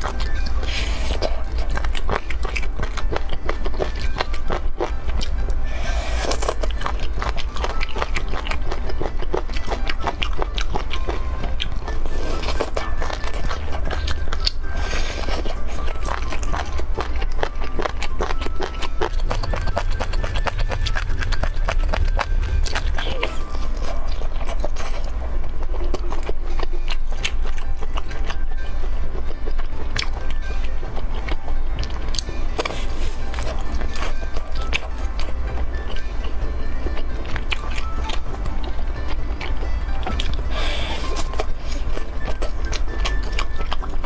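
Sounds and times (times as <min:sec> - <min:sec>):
crunchy vegetable chewing: 0:00.0 - 0:44.0
music: 0:00.0 - 0:44.0
steady low hum: 0:00.0 - 0:44.0.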